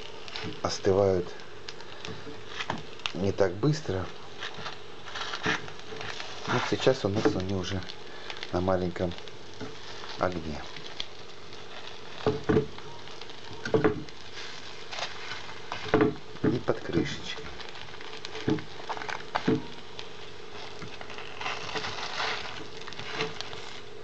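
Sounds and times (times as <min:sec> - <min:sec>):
crepes sizzling in a frying pan: 0:00.0 - 0:24.0.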